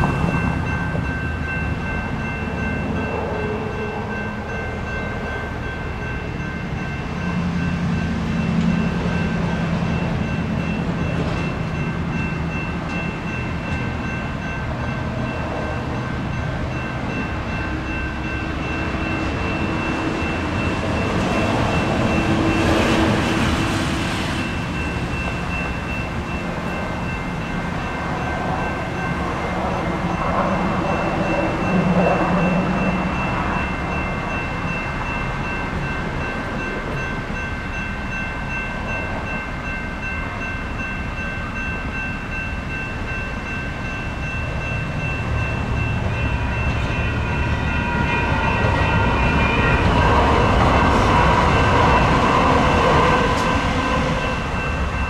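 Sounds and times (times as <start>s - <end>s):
crossing bell ringing: 0.0s - 55.0s.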